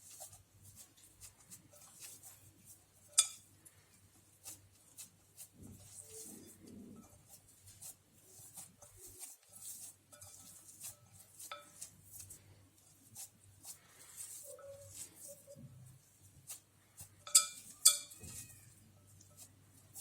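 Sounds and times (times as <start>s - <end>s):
dough mixed by hand in bowl: 0.0s - 20.0s.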